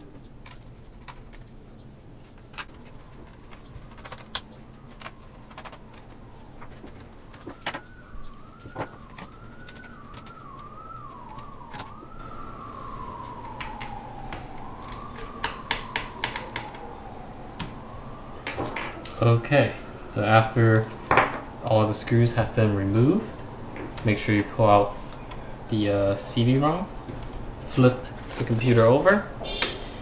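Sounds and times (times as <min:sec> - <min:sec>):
siren wailing: 0:01.3 - 0:30.0.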